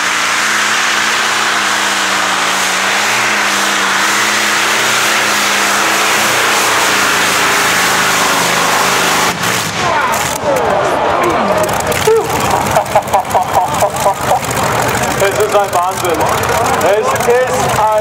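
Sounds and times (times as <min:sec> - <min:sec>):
radial aircraft engine running: 0:00.0 - 0:18.0.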